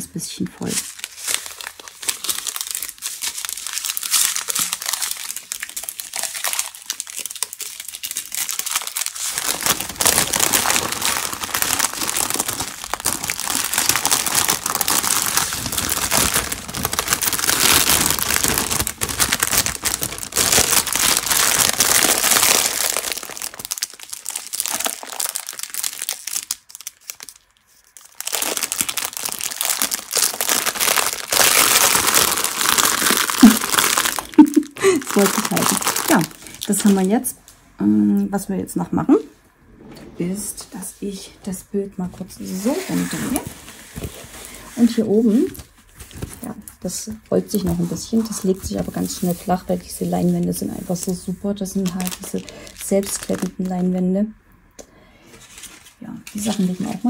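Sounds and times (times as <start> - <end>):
plastic bags crinkling: 0.6 - 37.4, 42.2 - 54.0, 55.4 - 57.0.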